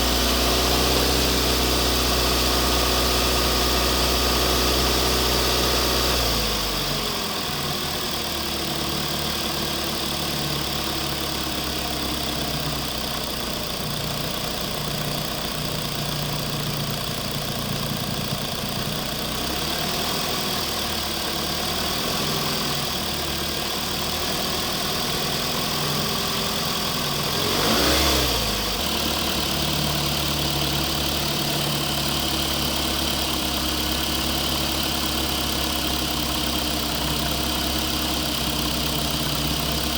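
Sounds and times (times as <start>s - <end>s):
engine-like idle: 0.0s - 39.9s.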